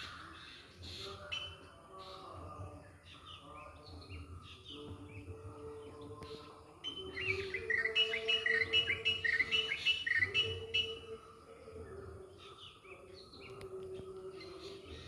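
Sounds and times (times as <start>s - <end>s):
songbirds chirping and calling: 0.0s - 15.0s.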